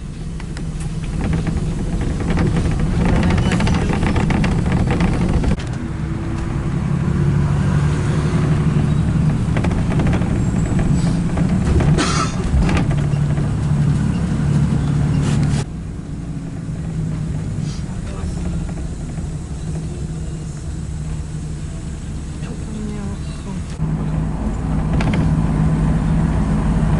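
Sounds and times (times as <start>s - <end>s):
car engine and road noise: 0.0s - 26.9s.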